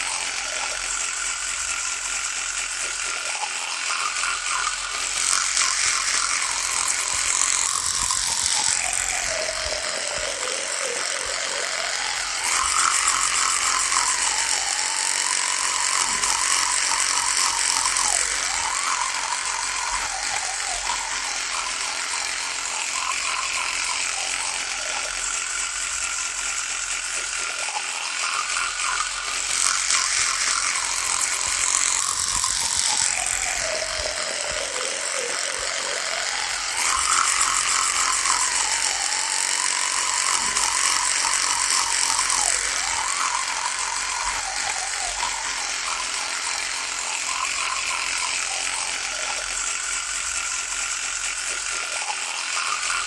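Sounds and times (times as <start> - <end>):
electric toothbrush buzzing: 0.0 - 53.0.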